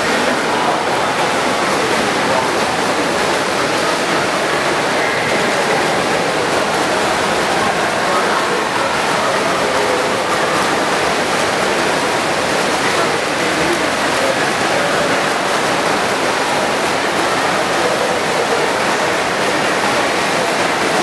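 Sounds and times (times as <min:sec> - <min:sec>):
faint voices: 0:00.0 - 0:21.0
swimmers splashing: 0:00.0 - 0:21.0.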